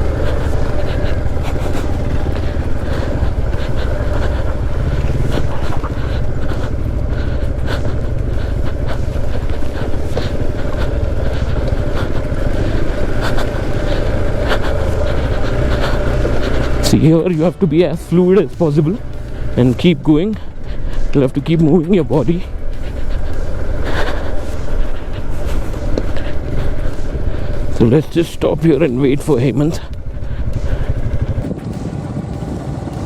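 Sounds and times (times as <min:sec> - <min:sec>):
pebbles clicking under tyres: 0:00.0 - 0:32.1
motorcycle engine rumble: 0:00.0 - 0:33.0.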